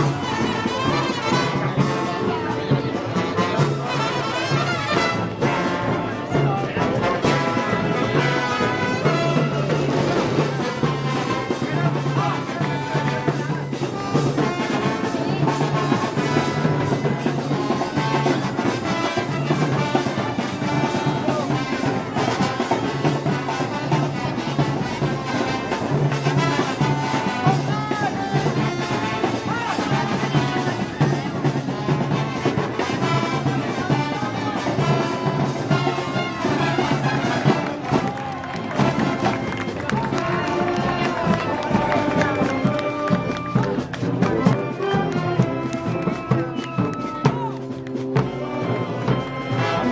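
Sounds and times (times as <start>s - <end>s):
brass band playing march: 0.0s - 49.9s.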